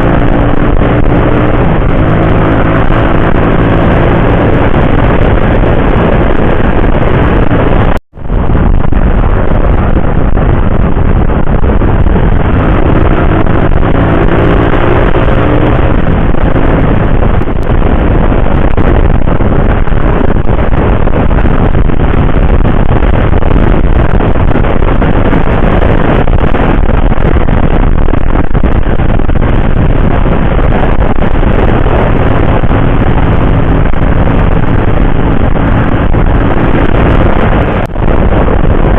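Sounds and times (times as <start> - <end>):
motorcycle engine hum: 0.0 - 38.9
wind and road noise: 0.0 - 38.9.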